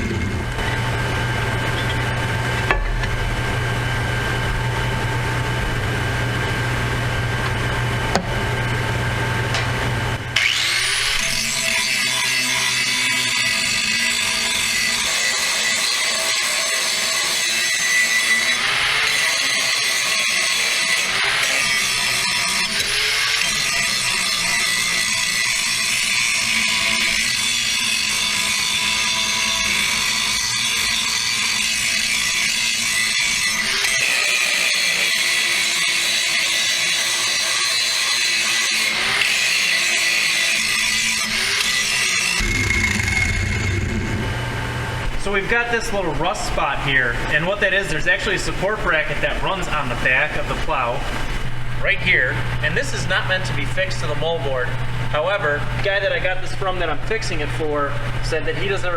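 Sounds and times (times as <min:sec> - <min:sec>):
angle grinder grinding steel: 0:00.0 - 0:08.9, 0:09.6 - 0:54.5.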